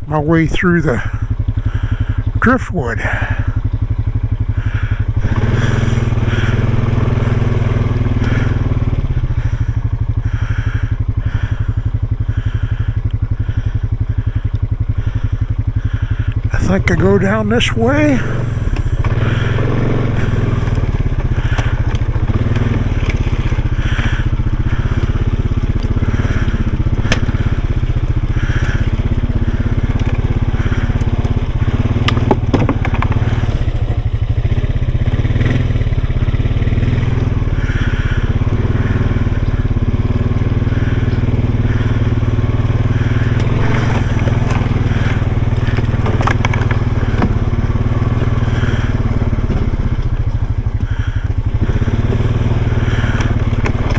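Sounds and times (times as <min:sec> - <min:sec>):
tyres crunching over rough ground: 0:00.0 - 0:53.9
vehicle engine running: 0:00.0 - 0:53.9.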